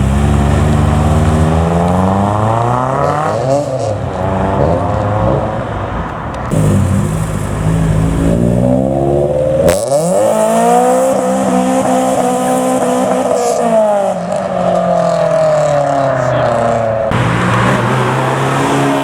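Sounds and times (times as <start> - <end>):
car engines accelerating hard: 0.0 - 19.0.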